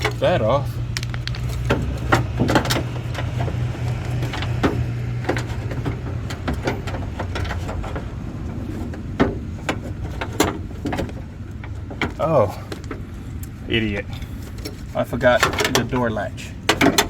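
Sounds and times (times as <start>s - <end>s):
tools clicking and knocking: 0.9s - 13.6s, 14.5s - 16.1s, 16.7s - 17.0s.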